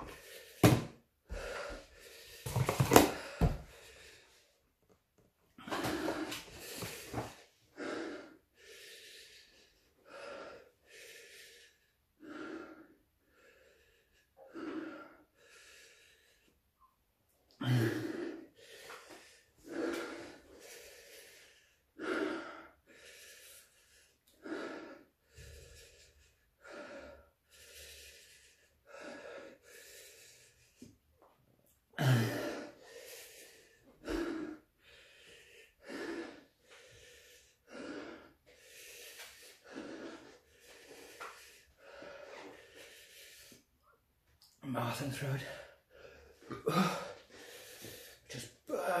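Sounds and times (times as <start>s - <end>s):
man breathing hard and gasping: 0.0s - 4.6s, 5.6s - 16.6s, 17.5s - 31.2s, 31.8s - 43.8s, 45.2s - 49.0s.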